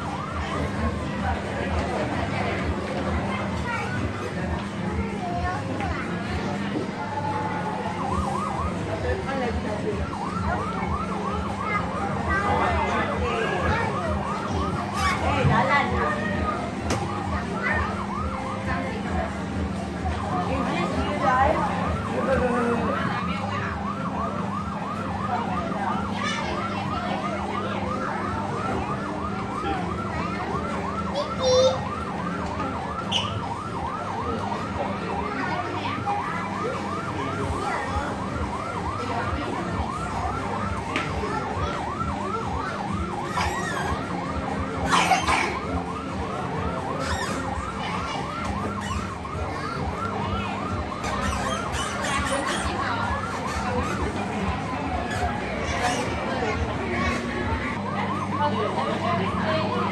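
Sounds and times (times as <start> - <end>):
electronic siren yelping: 6.0 - 59.9.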